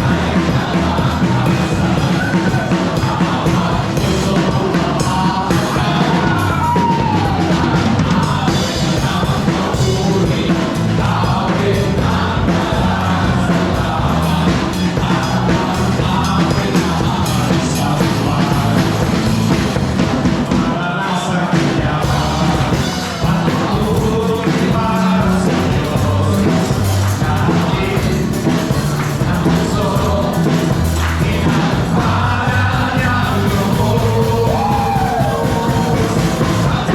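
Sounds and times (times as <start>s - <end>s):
voices singing along: 0.0s - 36.9s
worship band playing: 0.0s - 36.9s.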